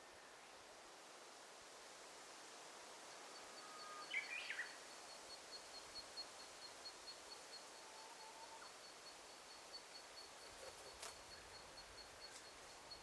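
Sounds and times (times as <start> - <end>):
forest ambience: 0.0 - 13.0.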